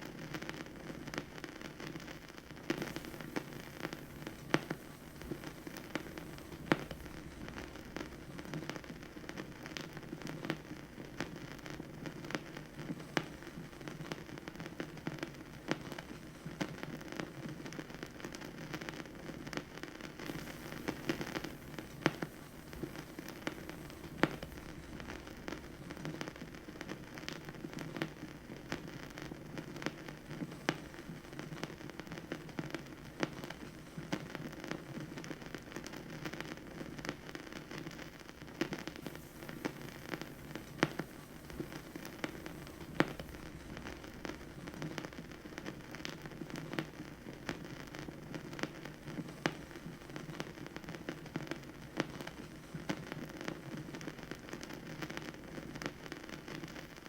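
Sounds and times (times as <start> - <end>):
vinyl record crackle: 0.0 - 57.0.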